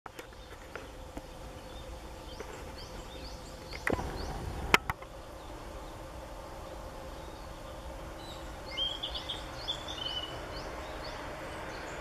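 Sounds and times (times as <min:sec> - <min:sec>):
faint steady hum: 0:00.1 - 0:12.0
songbirds calling: 0:00.1 - 0:12.0.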